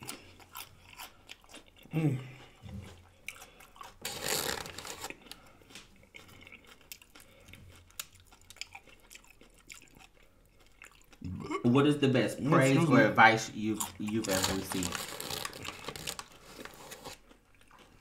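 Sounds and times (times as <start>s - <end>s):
crunching and chewing chips: 0.0s - 11.7s, 13.6s - 18.0s.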